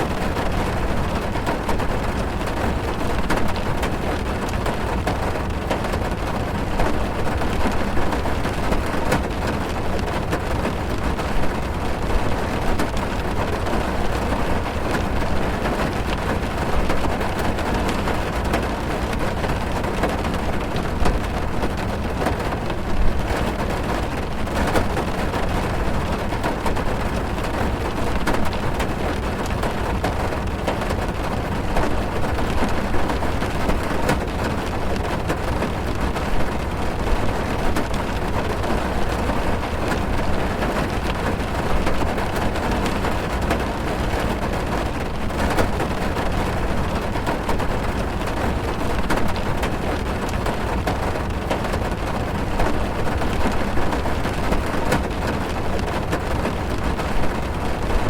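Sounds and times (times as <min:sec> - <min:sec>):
heavy rain drumming on a car roof: 0:00.0 - 0:58.0.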